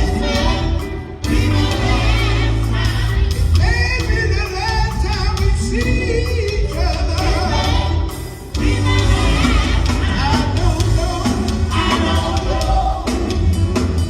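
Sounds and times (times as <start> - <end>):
gospel group singing with band: 0.0 - 14.0.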